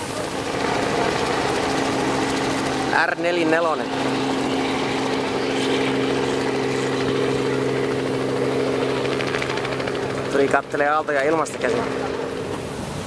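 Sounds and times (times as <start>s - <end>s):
helicopter flying past: 0.0s - 13.0s.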